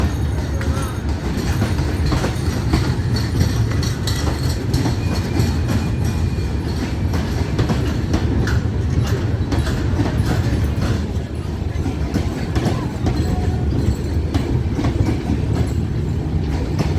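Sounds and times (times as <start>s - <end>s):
train rumbling: 0.0s - 16.9s.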